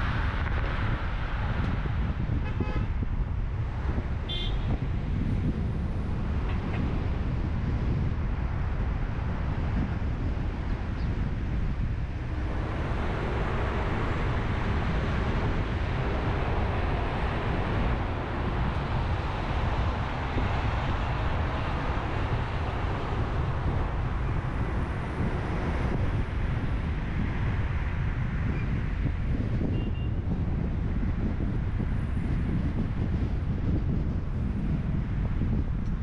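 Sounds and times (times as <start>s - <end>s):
car road noise: 0.0s - 36.0s.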